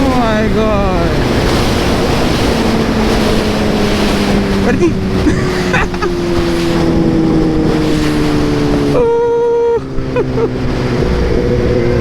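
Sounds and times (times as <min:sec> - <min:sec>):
motorcycle engine at speed: 0:00.0 - 0:12.0
wind noise on microphone: 0:00.0 - 0:12.0.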